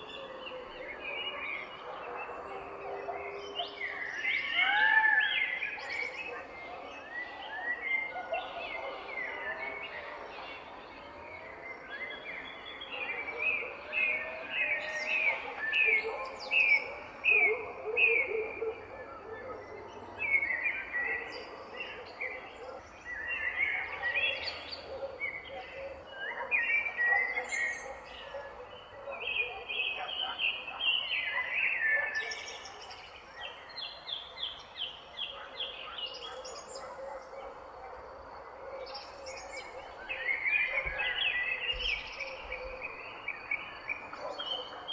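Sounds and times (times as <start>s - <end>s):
soft outdoor background: 0.0s - 44.9s
songbirds chirping and singing: 0.0s - 44.9s.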